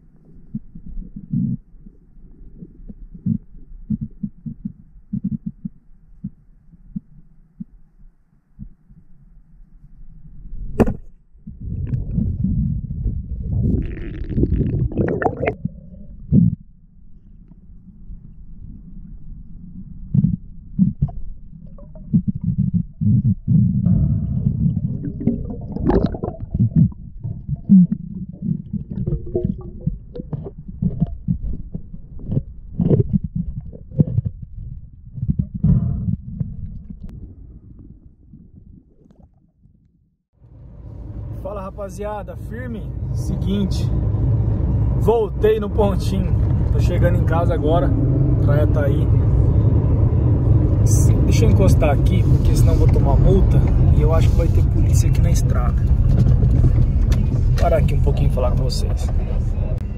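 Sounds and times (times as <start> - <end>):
muffled underwater rumble: 0.0 - 40.1, 40.8 - 59.9.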